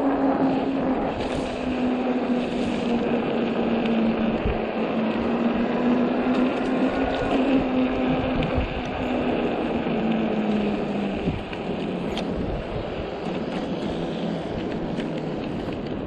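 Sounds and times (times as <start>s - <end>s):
bike tyres on slushy road: 0.0s - 16.0s
steady hum: 0.0s - 16.0s
wind on microphone: 0.0s - 16.0s.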